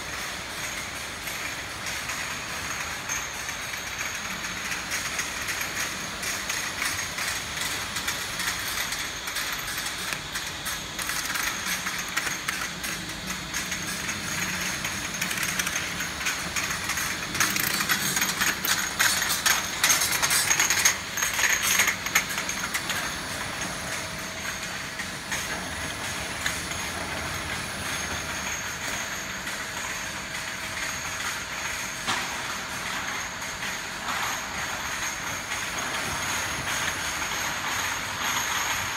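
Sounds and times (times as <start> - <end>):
machine hiss: 0.0 - 38.9.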